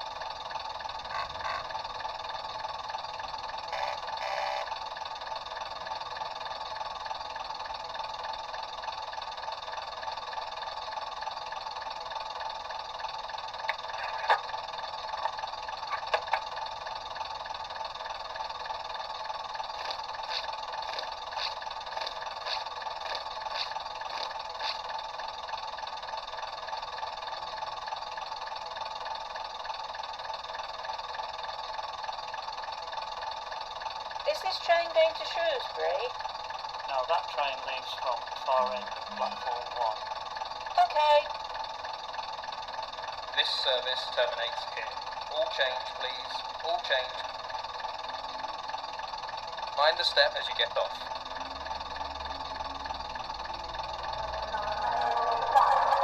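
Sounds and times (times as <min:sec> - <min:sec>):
diesel engine sound from small speaker: 0:00.0 - 0:56.0.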